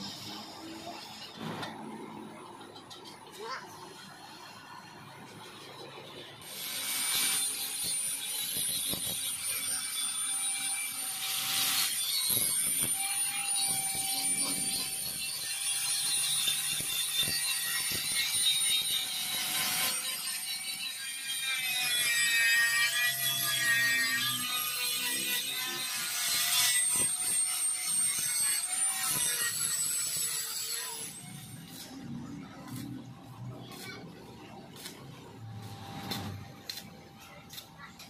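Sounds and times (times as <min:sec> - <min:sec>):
sanding disc scraping metal: 0:06.4 - 0:38.0.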